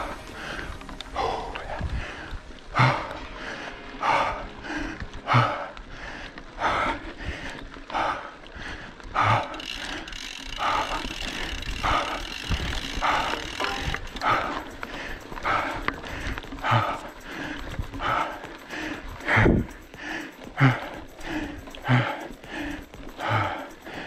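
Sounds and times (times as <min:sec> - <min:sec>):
bike rolling over dirt trail: 0:00.0 - 0:24.0
heavy rhythmic breathing: 0:00.0 - 0:24.0.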